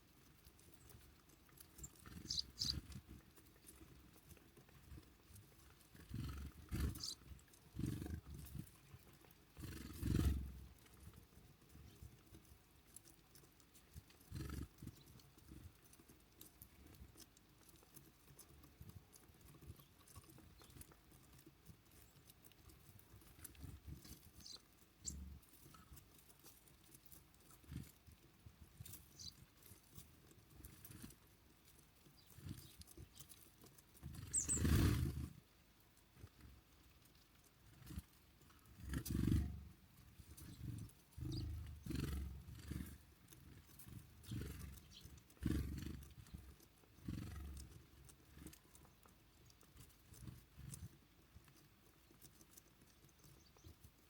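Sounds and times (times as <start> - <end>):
small birds chirping: 0.0 - 35.5, 37.6 - 54.0.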